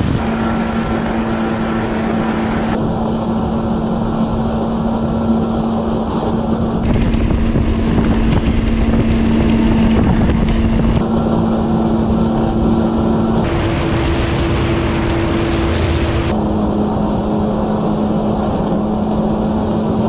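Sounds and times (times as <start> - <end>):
jet ski engine running: 0.0 - 20.0
wind on microphone: 0.0 - 20.0.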